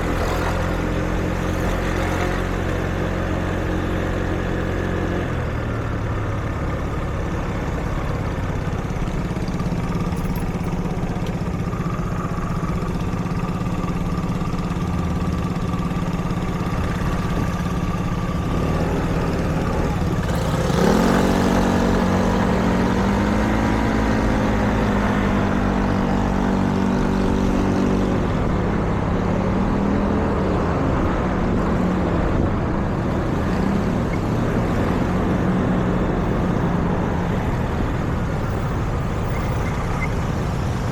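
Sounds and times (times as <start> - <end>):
idling vehicles hum: 0.0 - 40.9
vehicle pulling away: 0.0 - 40.9.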